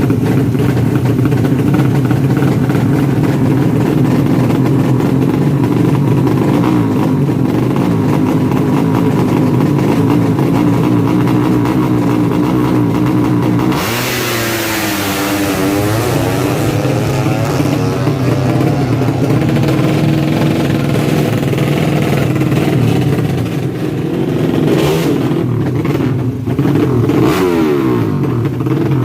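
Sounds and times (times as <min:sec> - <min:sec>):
motorcycle engine fast idle: 0:00.0 - 0:13.7, 0:15.1 - 0:24.6.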